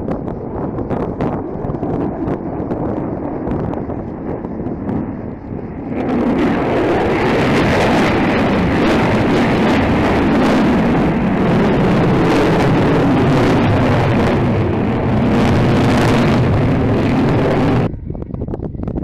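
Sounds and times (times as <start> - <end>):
jet engines roaring past: 0.0 - 18.8.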